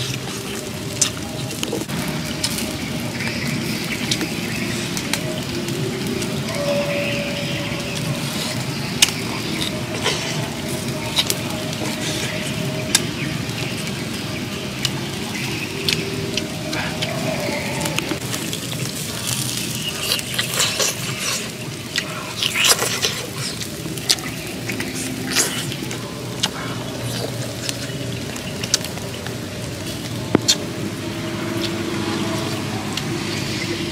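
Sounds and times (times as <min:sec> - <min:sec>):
small clicks and crackles: 0:00.0 - 0:30.7
steady background hiss: 0:00.0 - 0:33.9.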